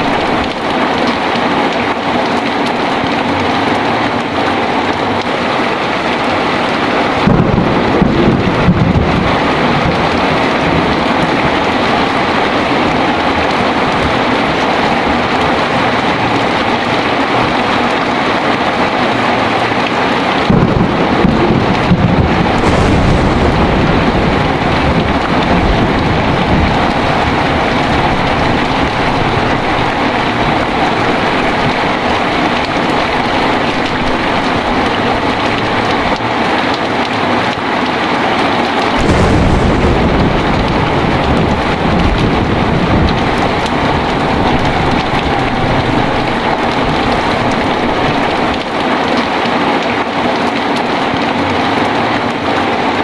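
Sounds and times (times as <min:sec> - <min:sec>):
thunder rumbling: 0:00.0 - 0:01.7, 0:05.2 - 0:37.4, 0:38.1 - 0:49.6
heavy rain falling: 0:00.0 - 0:53.0.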